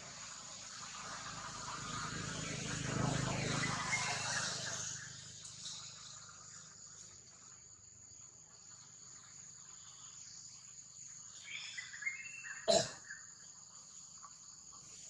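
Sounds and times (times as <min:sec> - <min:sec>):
higher insect call: 0:00.0 - 0:15.0
insect chorus: 0:00.0 - 0:15.0.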